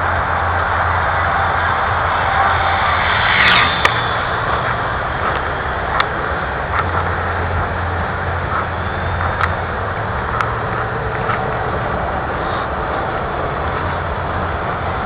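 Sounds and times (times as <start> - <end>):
electric motor whine: 0.0 - 15.0
wind rush on microphone: 0.0 - 15.0.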